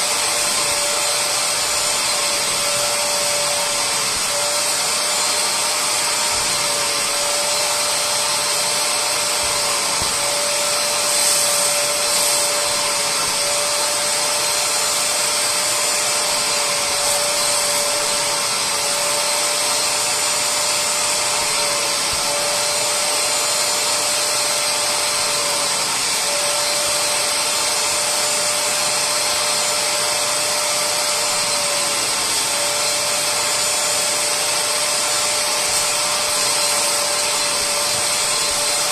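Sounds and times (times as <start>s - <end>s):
suction motor whine and hiss: 0.0s - 38.9s.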